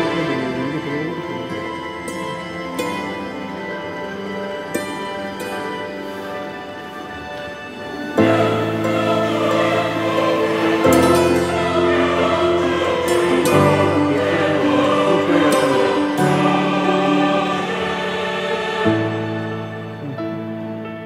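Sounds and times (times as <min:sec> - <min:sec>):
choir-like singing over chords: 0:00.0 - 0:21.0.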